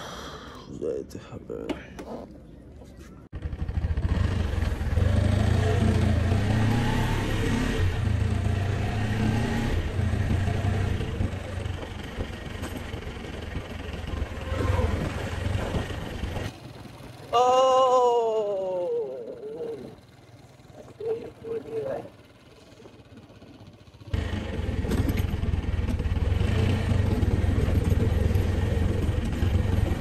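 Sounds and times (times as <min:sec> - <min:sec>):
motorcycle engine running: 0:03.4 - 0:30.0.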